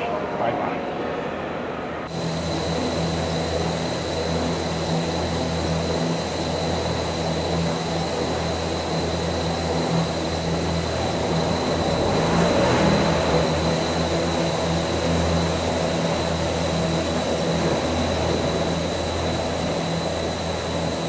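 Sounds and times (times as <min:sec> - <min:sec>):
low motor hum: 0:02.0 - 0:21.0
car wash brushes whirring: 0:02.1 - 0:21.0.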